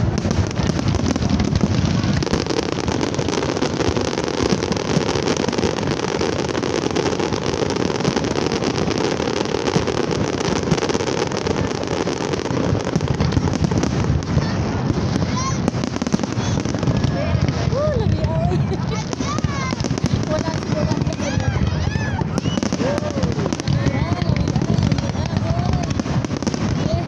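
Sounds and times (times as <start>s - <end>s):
fireworks bursting and crackling: 0.0s - 27.0s.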